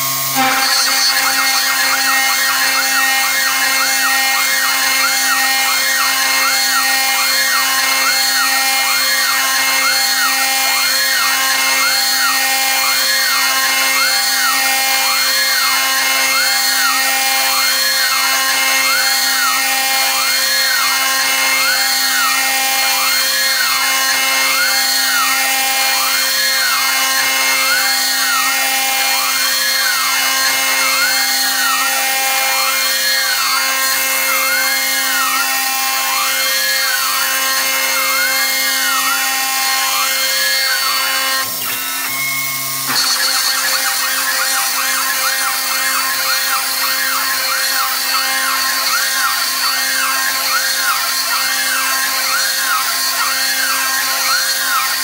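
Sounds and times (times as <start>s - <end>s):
spindle whine and milling metal: 0.0s - 55.0s.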